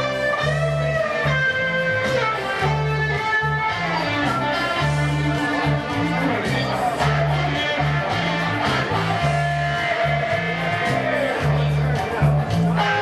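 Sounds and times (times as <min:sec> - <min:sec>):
electric guitar lead with bent notes: 0:00.0 - 0:13.0
pulsing bass guitar: 0:00.0 - 0:13.0.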